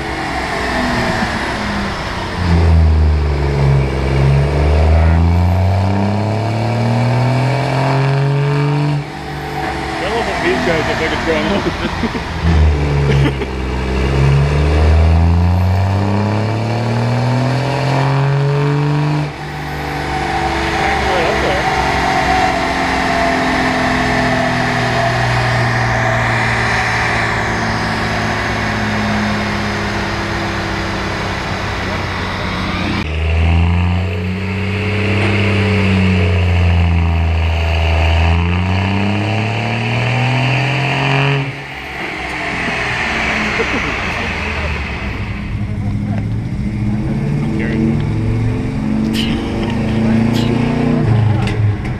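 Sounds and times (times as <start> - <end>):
diesel engine under full load: 0.0 - 51.9.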